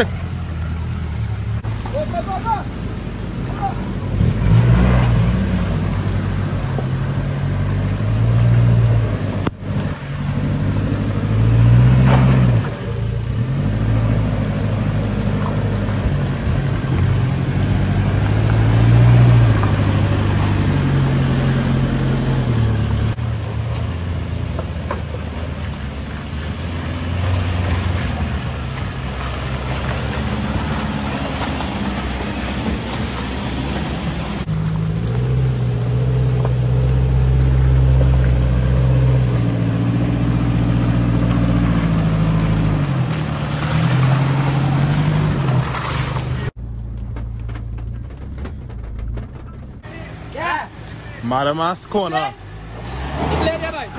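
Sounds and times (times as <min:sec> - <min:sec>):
tyre and road noise: 0:00.0 - 0:53.9
vehicle engine revving while driving: 0:02.7 - 0:51.4, 0:52.2 - 0:53.9.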